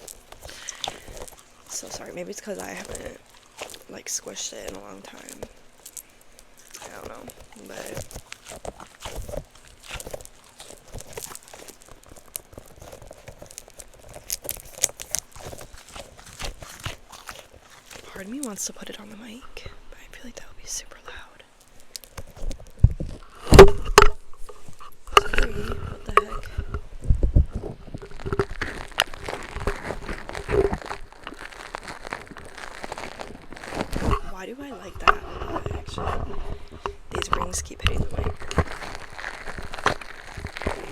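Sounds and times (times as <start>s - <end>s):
squeeze toy crinkling and crackling: 0.0s - 40.9s.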